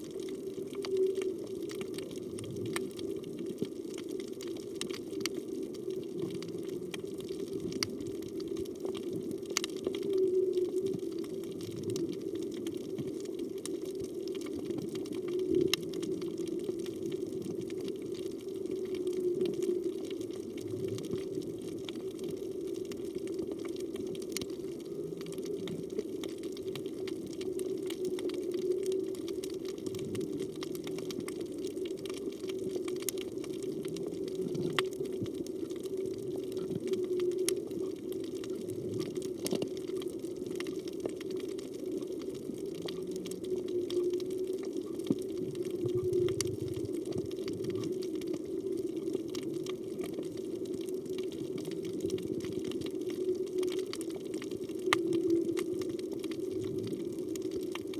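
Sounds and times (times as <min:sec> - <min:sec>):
sharp clicks and crackles: 0:00.0 - 0:57.9.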